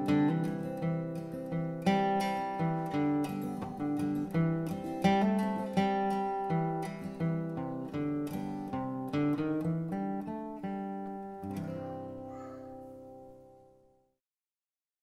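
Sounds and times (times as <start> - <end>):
plucked string instrumental: 0.0 - 13.8.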